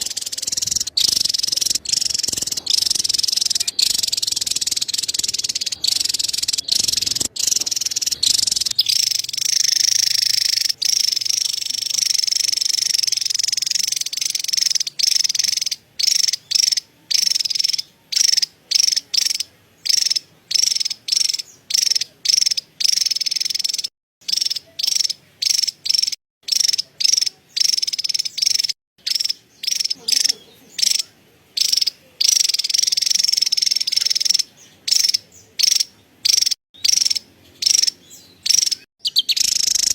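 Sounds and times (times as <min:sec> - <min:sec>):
bird rapid chattering call: 0:00.0 - 0:39.9.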